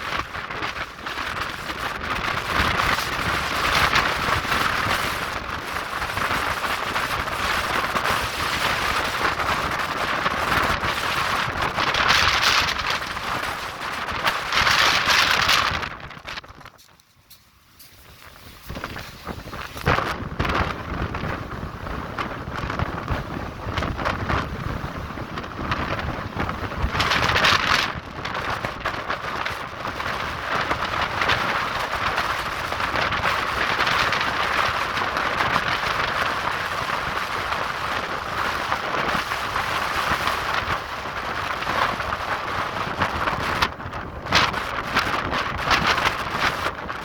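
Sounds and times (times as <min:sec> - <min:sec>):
wind buffeting on microphone: 0:00.0 - 0:47.0
wind gusting: 0:00.0 - 0:47.0.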